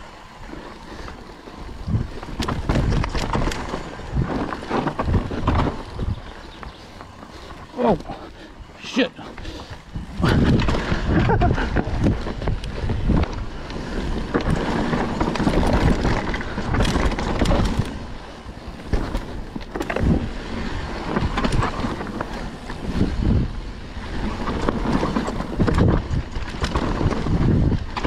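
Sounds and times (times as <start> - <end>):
bike rattling and clattering: 0.0 - 28.0
tyres skidding on loose dirt: 0.0 - 28.0
wind buffeting microphone: 0.0 - 28.0.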